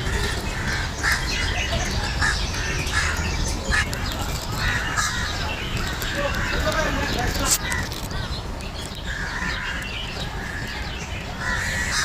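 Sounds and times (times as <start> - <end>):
birds squawking: 0.0 - 12.0
low background noise: 0.0 - 12.0.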